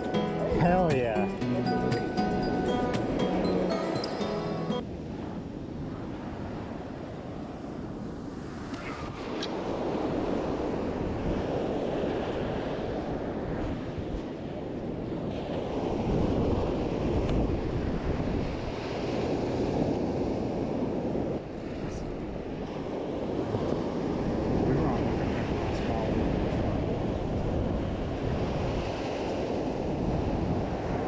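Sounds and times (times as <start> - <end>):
wind buffeting microphone: 4.8 - 31.0.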